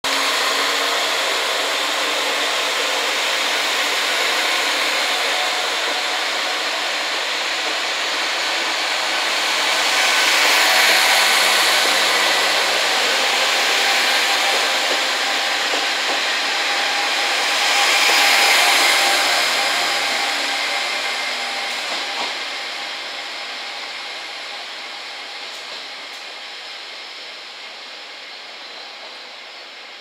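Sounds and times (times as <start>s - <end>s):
diesel train rolling: 0.0s - 27.7s.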